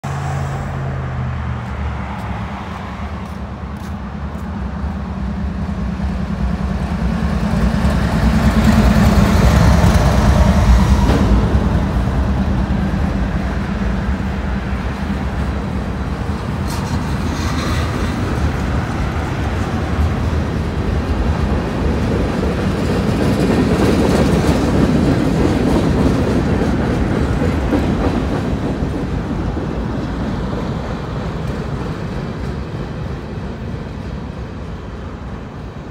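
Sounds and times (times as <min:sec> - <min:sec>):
diesel locomotive passing: 0:00.0 - 0:35.9
train wheels clattering on rails: 0:01.6 - 0:35.8.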